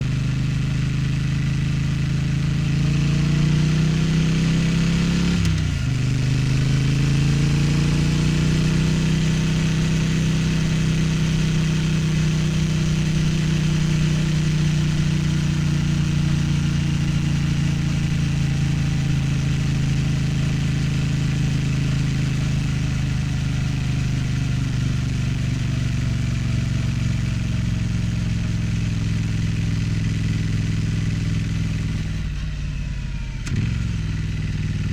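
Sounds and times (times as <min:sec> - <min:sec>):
motorcycle engine revving: 0:00.0 - 0:32.4, 0:33.4 - 0:34.9.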